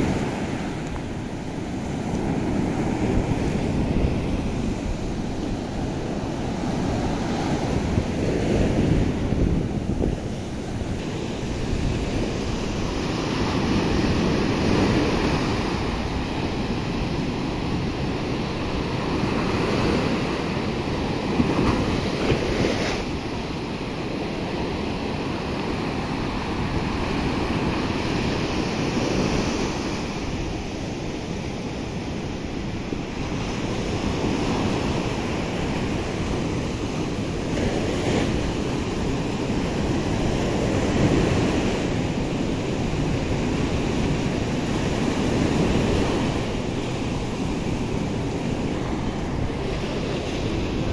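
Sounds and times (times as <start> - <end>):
small surf washing up beach: 0.0 - 50.9.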